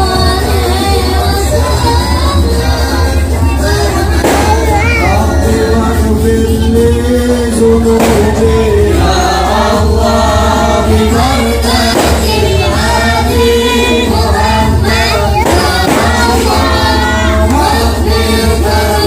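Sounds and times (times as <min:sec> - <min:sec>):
choir singing over loudspeakers: 0:00.0 - 0:19.0.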